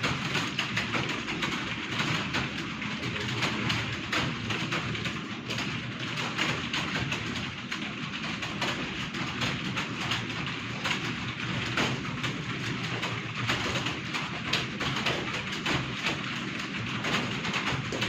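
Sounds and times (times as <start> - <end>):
many keyboards typing: 0.0 - 18.0.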